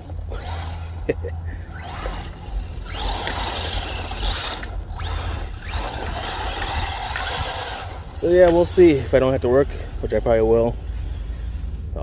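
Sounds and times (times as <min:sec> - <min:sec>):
rc car drivetrain whirring: 0:00.0 - 0:11.3.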